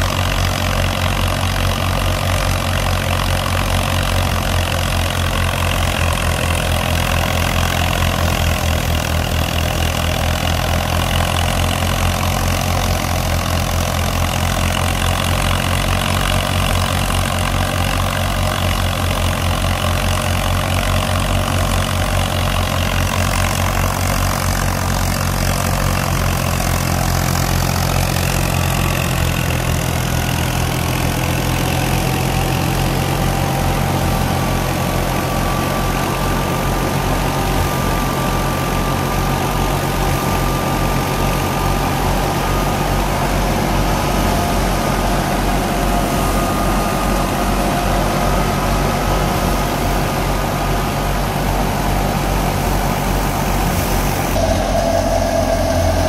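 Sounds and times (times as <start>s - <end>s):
thresher drum and belts turning: 0.0s - 56.0s
tractor diesel engine running: 0.0s - 56.0s.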